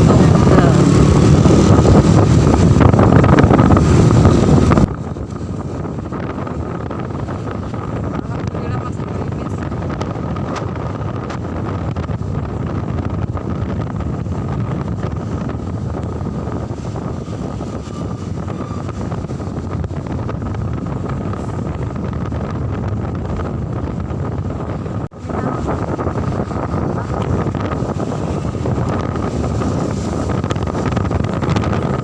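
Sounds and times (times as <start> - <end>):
moving vehicle running noise: 0.0 - 32.0
wind buffeting microphone: 0.0 - 32.0.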